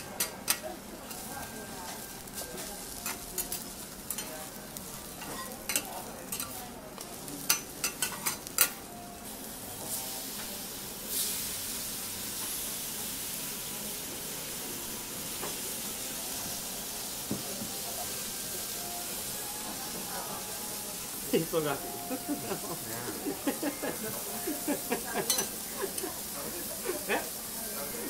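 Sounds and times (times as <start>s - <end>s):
food sizzling on a griddle: 0.0s - 28.0s.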